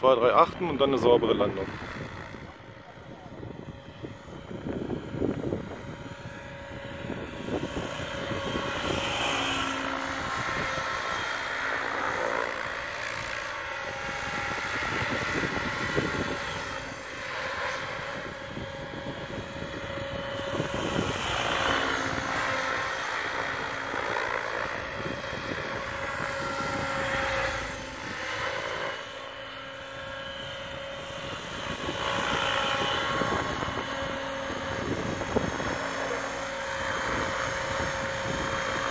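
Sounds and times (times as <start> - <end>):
rc helicopter motor and rotor whine: 0.0 - 38.9.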